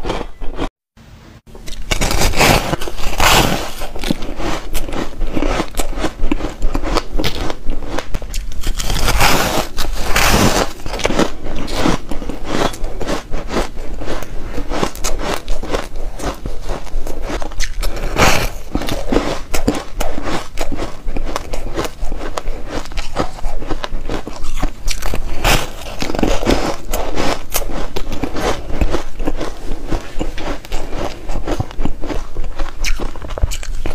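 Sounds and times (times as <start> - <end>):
ice crunching while chewed: 0.0 - 0.7, 1.6 - 33.9.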